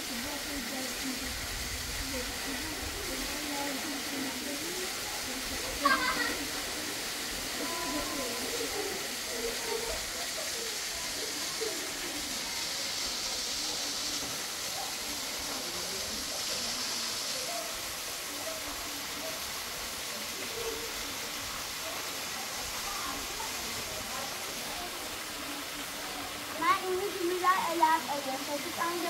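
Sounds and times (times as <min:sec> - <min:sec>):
faint voices talking: 0:00.0 - 0:29.0
running water hissing: 0:00.0 - 0:29.0.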